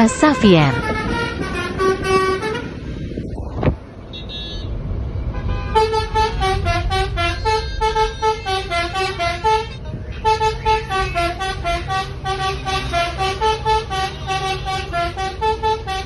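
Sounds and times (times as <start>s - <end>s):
musical trumpet horns playing tune: 0.0s - 2.8s, 5.4s - 16.0s.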